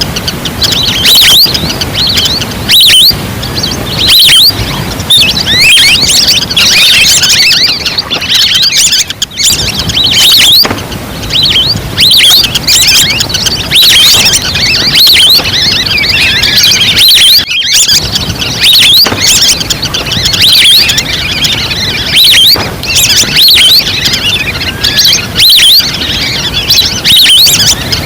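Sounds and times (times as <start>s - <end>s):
whistled duck calls: 0.0s - 28.0s.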